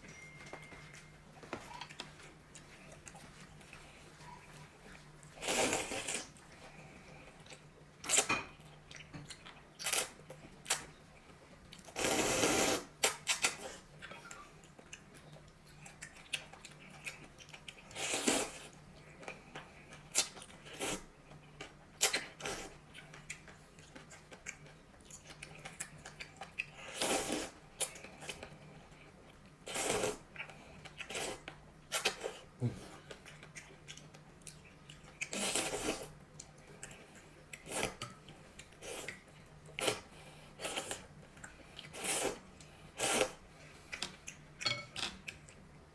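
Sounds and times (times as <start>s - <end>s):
chewing: 1.4s - 12.2s, 13.0s - 45.7s.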